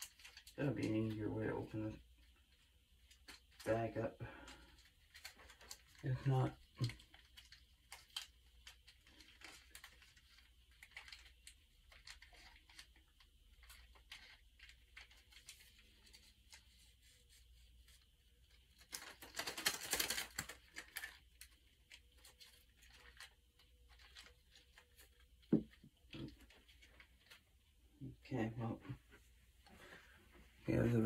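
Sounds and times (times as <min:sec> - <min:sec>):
plastic packaging clicks and rustles: 0:00.0 - 0:01.4, 0:02.0 - 0:28.0
plastic bag crinkling and tearing: 0:00.0 - 0:01.6, 0:02.2 - 0:27.8.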